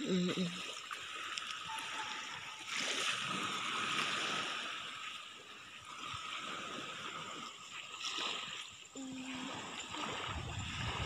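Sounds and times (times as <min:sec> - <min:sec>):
small waves washing onto beach: 0:00.0 - 0:11.0.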